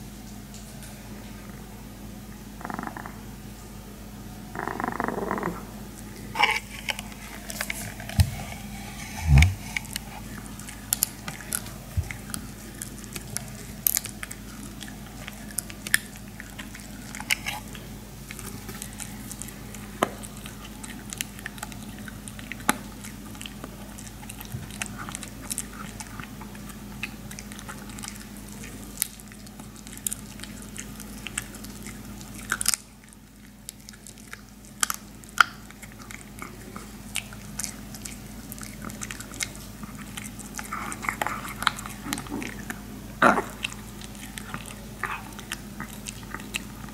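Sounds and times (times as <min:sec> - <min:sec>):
steady low hum: 0:00.0 - 0:46.9
dog chewing and crunching: 0:04.6 - 0:46.9.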